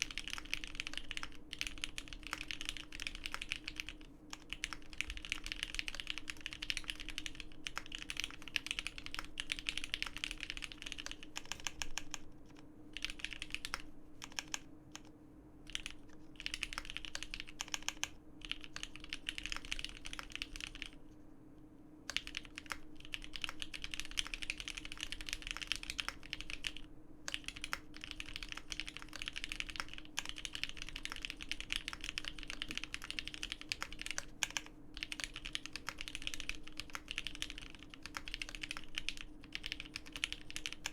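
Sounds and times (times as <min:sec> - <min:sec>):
fast typing on mechanical keyboard: 0:00.0 - 0:12.2, 0:12.9 - 0:15.1, 0:15.7 - 0:21.0, 0:22.1 - 0:40.9.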